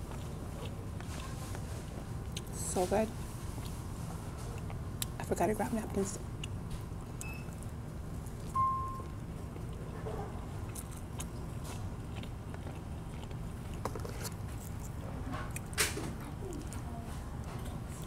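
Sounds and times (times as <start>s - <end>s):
person chewing food: 0.0s - 5.2s, 6.3s - 18.0s
steady low hum: 0.0s - 18.0s.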